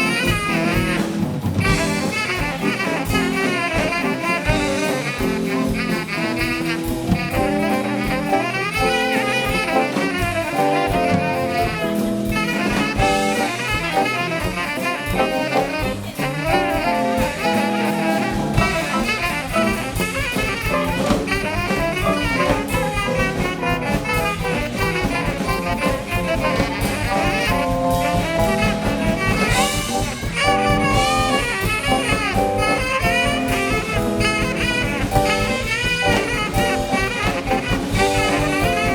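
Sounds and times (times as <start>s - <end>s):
bass: 0.0s - 38.9s
drums: 0.0s - 38.9s
horn chords: 0.0s - 38.9s
live jazz band: 0.0s - 38.9s.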